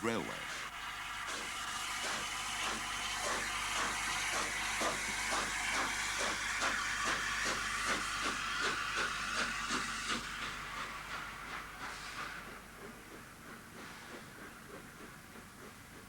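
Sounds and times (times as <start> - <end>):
steam hiss: 0.0 - 16.0.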